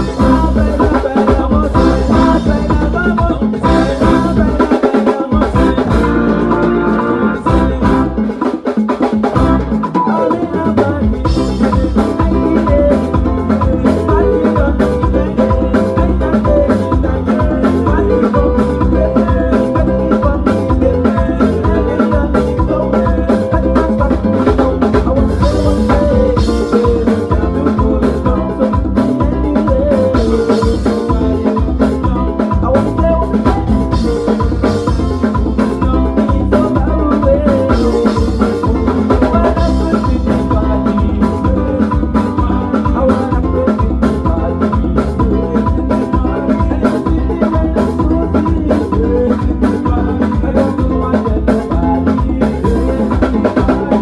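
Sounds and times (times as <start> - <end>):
music with drum-kit beat: 0.0 - 54.0.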